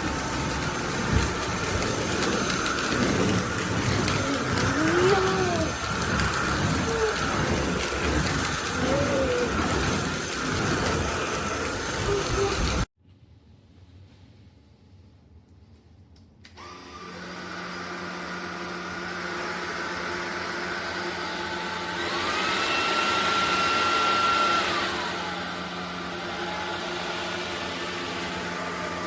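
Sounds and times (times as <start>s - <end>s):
stick vacuum motor whine: 0.0s - 12.9s, 16.5s - 29.0s.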